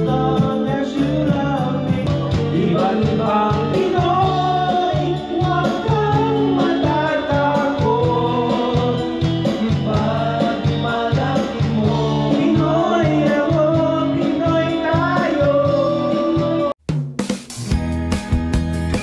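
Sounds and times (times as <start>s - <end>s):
man singing into microphone: 0.0s - 16.8s
backing track with beat: 0.0s - 19.0s.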